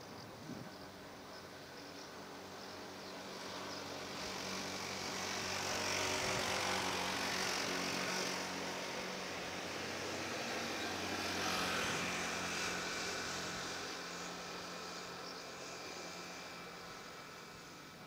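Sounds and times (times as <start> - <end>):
vehicle engine and tyre noise: 0.0 - 18.0.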